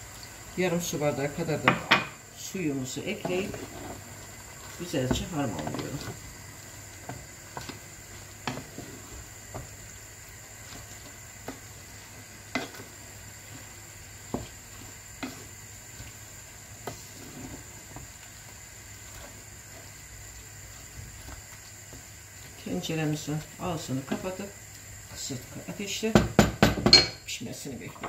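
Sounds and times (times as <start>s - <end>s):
wooden spatula scraping a pot: 2.7s - 25.9s.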